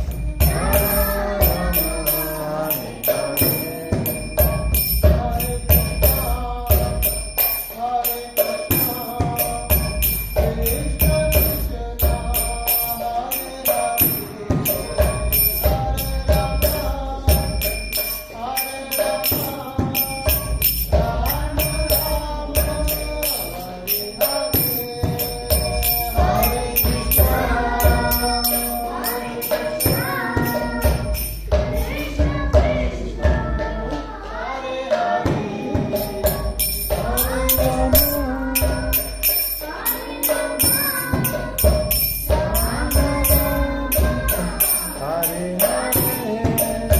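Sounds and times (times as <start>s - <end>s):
jingling percussion: 0.0s - 46.9s
voices singing: 0.0s - 46.9s.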